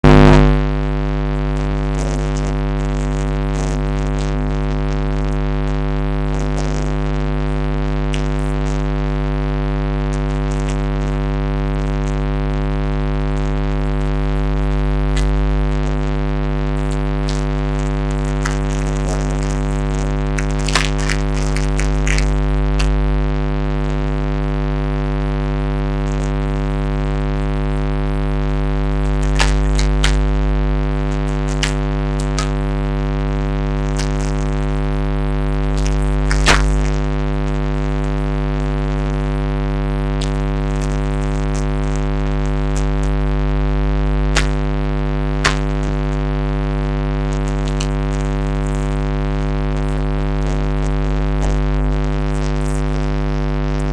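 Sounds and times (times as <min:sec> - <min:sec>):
electrical hum: 0:00.0 - 0:53.9.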